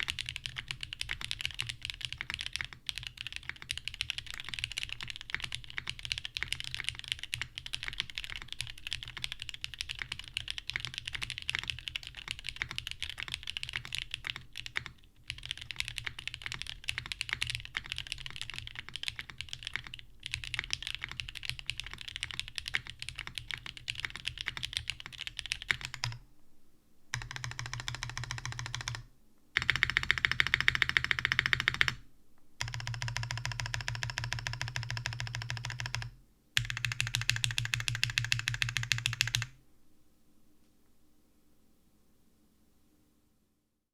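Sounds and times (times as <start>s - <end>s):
typing on mechanical keyboard: 0.0s - 26.2s, 27.1s - 29.0s, 29.6s - 32.0s, 32.6s - 39.6s.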